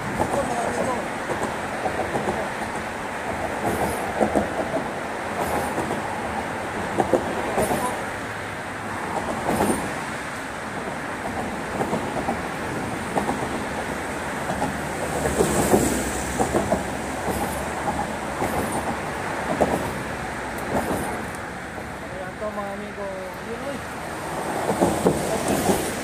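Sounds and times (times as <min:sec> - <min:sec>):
traffic rumble on bridge: 0:00.0 - 0:26.0.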